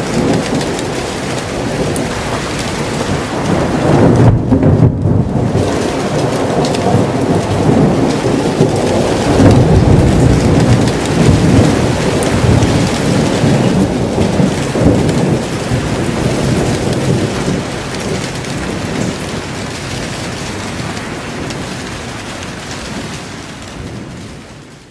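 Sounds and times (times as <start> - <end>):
rolling thunder: 0.0 - 24.9
steady rain: 0.0 - 24.9.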